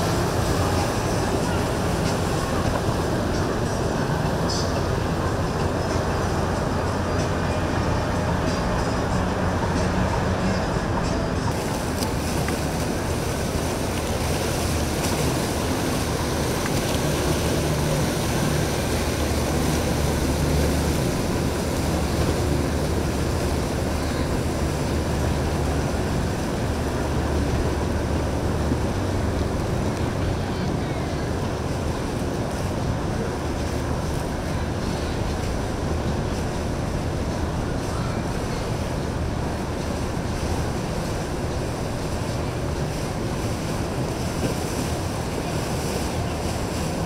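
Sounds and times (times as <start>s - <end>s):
motor boat engine rumble: 0.0s - 47.0s
water wash: 0.0s - 47.0s.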